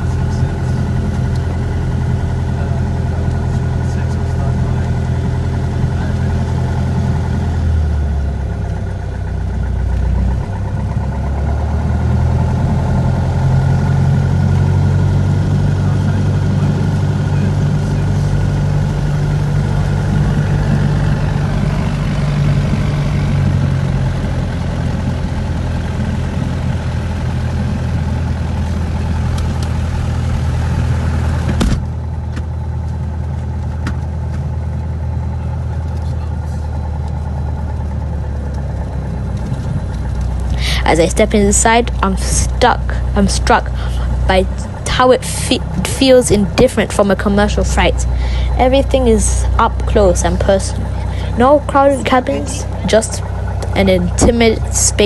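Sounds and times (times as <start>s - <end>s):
light aircraft piston engine: 0.0s - 55.0s.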